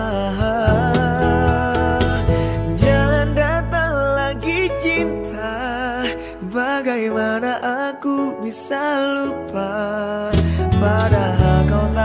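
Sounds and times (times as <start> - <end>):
man singing pop ballad: 0.0 - 12.0.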